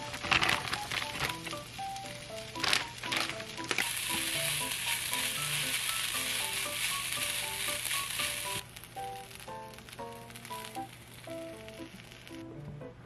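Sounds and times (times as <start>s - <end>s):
rice sizzling in a frying pan: 0.0s - 12.6s
light background music: 0.0s - 13.0s.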